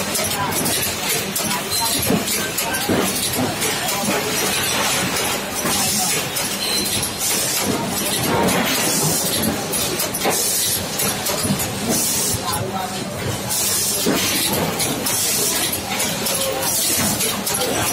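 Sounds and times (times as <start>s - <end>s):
pneumatic cylinders clacking: 0.0s - 17.9s.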